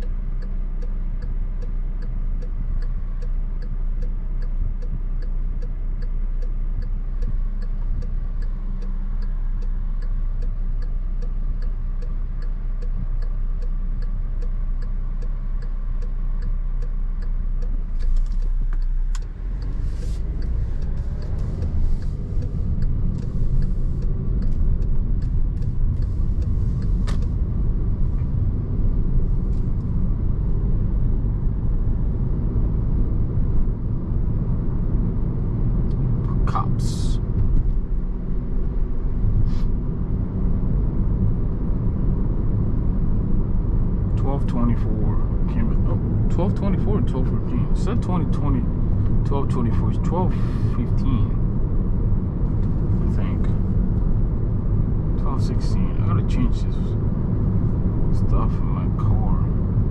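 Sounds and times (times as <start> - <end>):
car engine running: 0.0 - 59.9
road noise: 0.0 - 59.9
turn signal ticking: 0.0 - 59.9.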